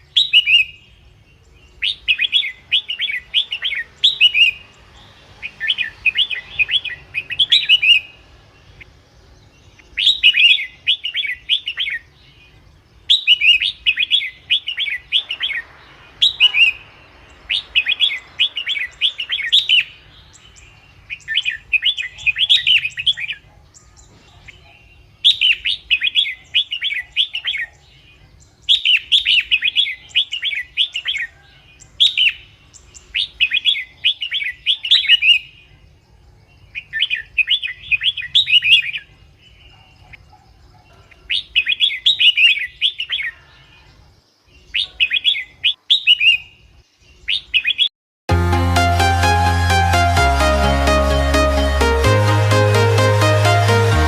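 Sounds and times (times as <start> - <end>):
bird singing chirping phrases: 0.0 - 47.9.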